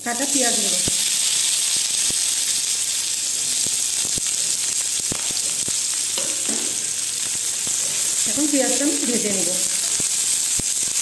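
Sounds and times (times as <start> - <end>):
onion sizzling in hot oil: 0.0 - 11.0
oil popping and crackling: 0.7 - 11.0.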